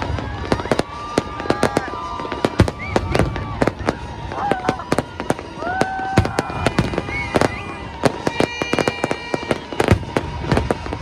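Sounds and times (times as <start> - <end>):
fireworks bangs and crackling: 0.0 - 11.0
whistling fireworks: 0.0 - 11.0.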